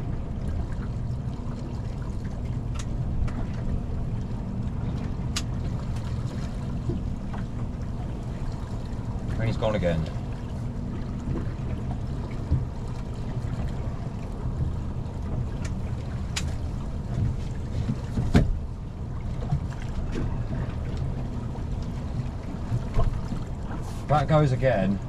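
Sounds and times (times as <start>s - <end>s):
low wind: 0.0s - 25.0s
water around boat: 0.0s - 25.0s.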